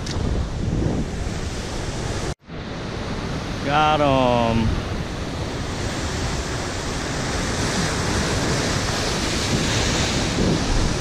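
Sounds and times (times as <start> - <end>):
wind buffeting microphone: 0.0 - 3.7, 4.4 - 11.0
ocean surf: 0.0 - 11.0.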